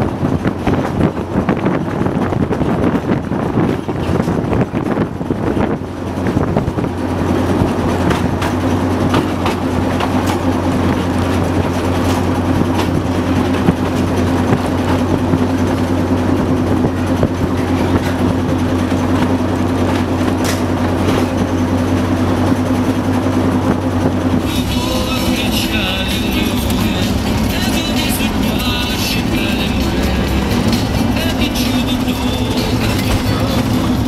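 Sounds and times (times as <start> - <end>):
diesel engine drone: 0.0 - 34.0
train clattering on rails: 0.0 - 34.0.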